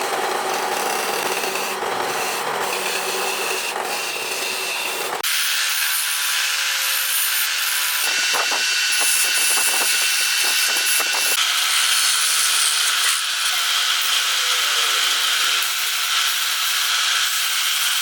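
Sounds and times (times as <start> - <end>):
woodworking tool on wood: 0.0 - 18.0.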